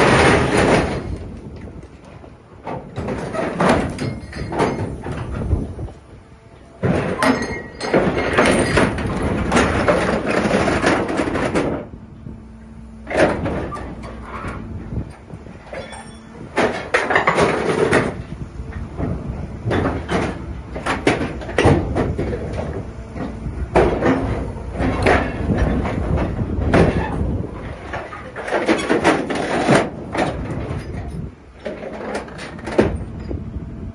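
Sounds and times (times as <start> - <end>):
metal grinding and clanking: 0.0 - 33.4
faint machine hum: 0.0 - 33.9.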